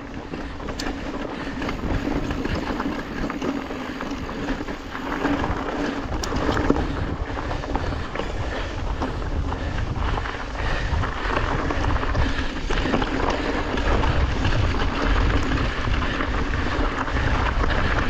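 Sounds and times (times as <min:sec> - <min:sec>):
bike clicks and rattles: 0:00.0 - 0:18.0
tyre and wind noise: 0:00.0 - 0:18.0.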